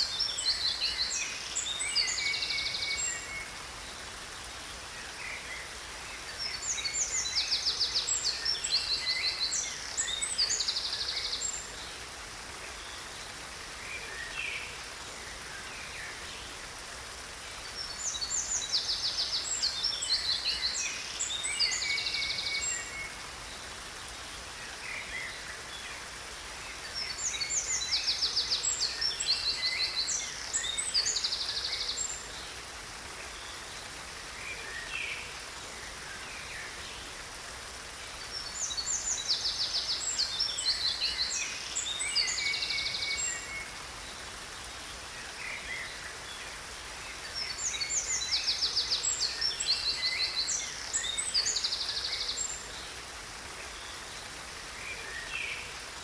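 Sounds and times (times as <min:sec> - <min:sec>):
songbirds trilling and chirping: 0:00.0 - 0:56.0
waterfall rushing: 0:00.0 - 0:56.0.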